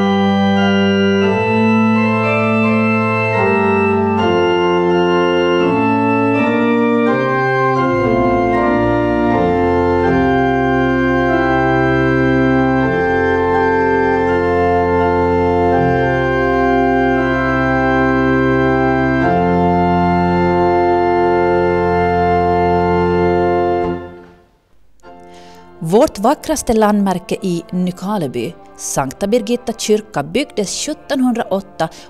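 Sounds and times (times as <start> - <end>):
church organ chords: 0.0 - 32.0.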